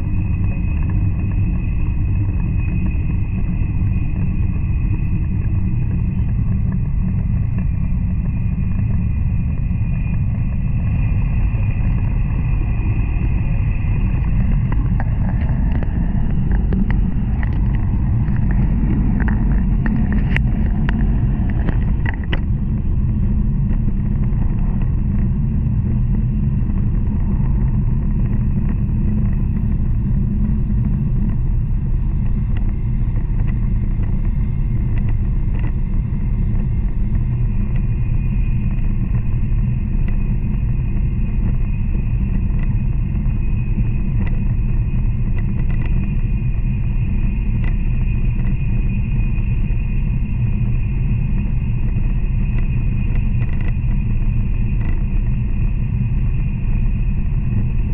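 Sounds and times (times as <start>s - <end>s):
train low rumble: 0.0s - 57.9s.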